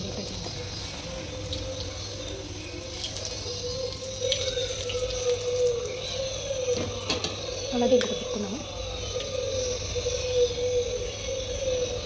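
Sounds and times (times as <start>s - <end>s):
food deep-frying in oil: 0.0s - 10.6s.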